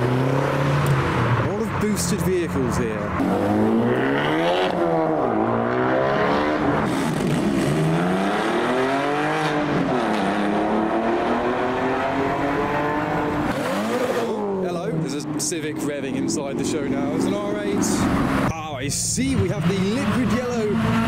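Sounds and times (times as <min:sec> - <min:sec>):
car engine accelerating hard: 0:00.0 - 0:18.5, 0:19.3 - 0:21.0.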